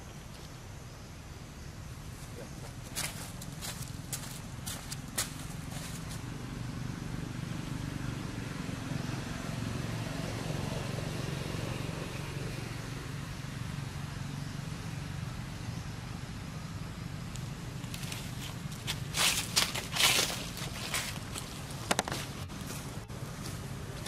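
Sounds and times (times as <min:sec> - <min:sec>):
vehicle engine running: 0:01.8 - 0:24.0.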